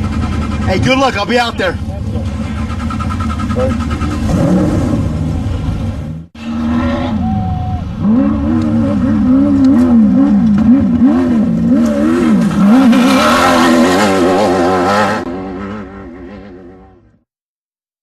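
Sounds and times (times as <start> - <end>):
race car engine revving: 0.0 - 17.2.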